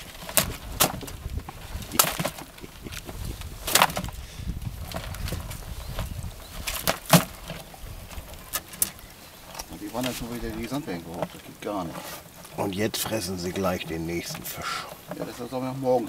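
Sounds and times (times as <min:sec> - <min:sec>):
net knocking and clattering: 0:00.0 - 0:15.7.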